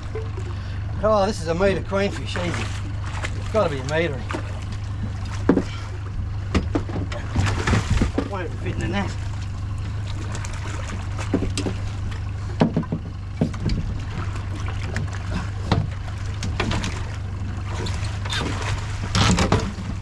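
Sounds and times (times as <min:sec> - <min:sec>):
boat motor droning: 0:00.0 - 0:20.0
knocks and thuds on boat: 0:00.0 - 0:20.0.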